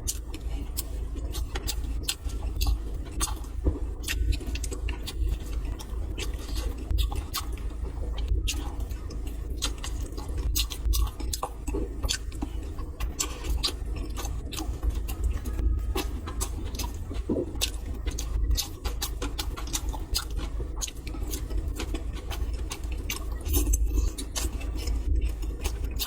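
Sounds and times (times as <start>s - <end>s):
person chewing: 0.0s - 26.0s
steady low rumble: 0.0s - 26.0s.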